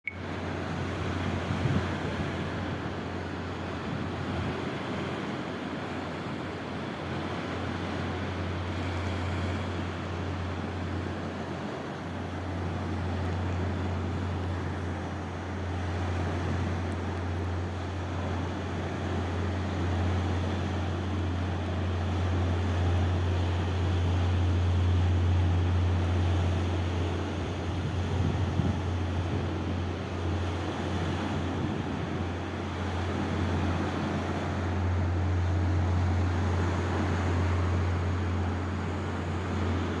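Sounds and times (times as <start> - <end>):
steady low hum: 0.1 - 40.0.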